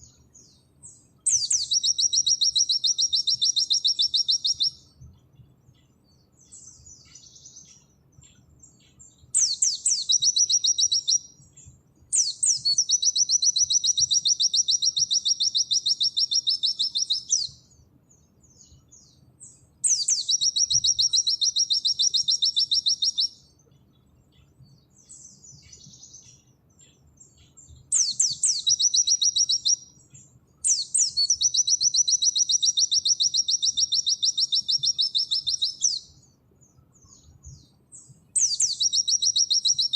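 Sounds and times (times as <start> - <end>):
soft bird twittering: 0.0 - 39.9.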